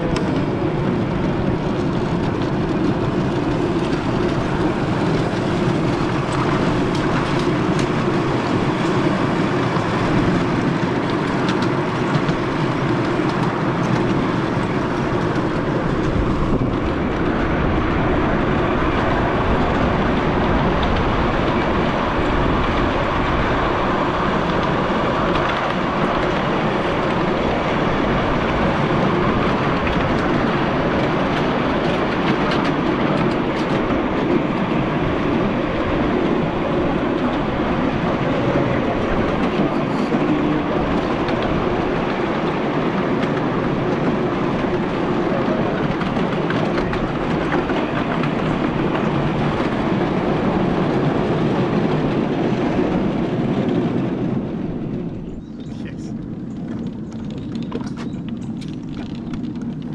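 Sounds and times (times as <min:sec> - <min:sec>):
miniature train wheels on rail: 0:00.0 - 0:59.9.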